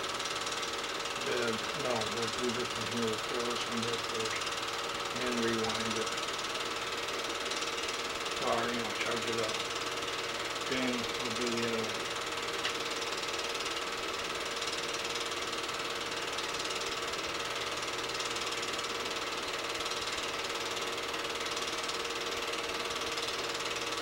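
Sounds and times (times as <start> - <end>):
film projector chatter: 0.0 - 24.0
projector hum: 0.0 - 24.0.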